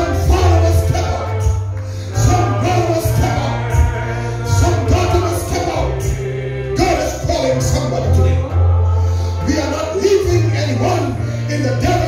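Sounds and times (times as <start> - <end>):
singers on microphones: 0.0 - 12.0.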